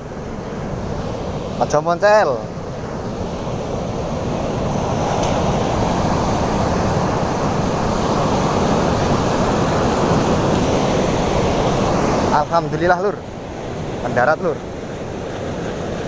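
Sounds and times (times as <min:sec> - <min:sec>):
surf rushing: 0:00.0 - 0:16.0
wind buffeting microphone: 0:00.0 - 0:16.0.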